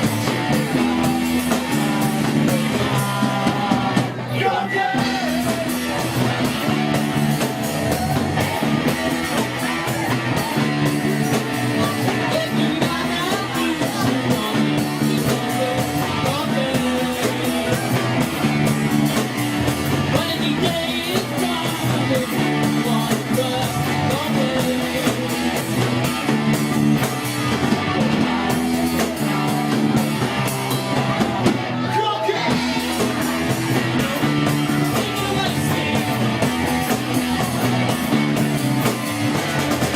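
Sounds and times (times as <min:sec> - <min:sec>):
person singing: 0:00.0 - 0:25.7, 0:30.7 - 0:38.6
electric guitar: 0:00.0 - 0:39.9
live rock band playing: 0:00.0 - 0:39.9.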